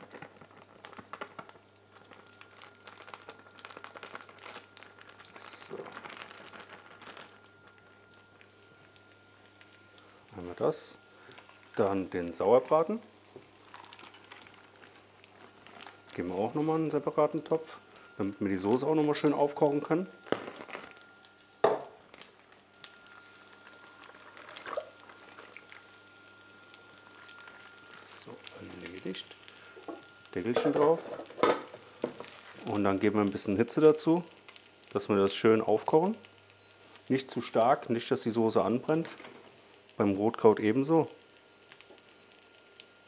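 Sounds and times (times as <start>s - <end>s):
plastic bag crinkling: 0.0s - 43.0s.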